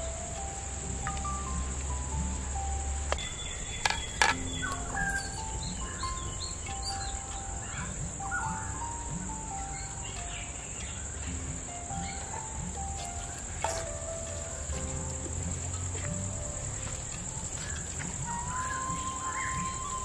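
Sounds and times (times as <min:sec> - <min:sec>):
crickets chirring: 0:00.0 - 0:20.0
soft slow melody: 0:00.0 - 0:20.0
bird chirps: 0:00.1 - 0:20.0.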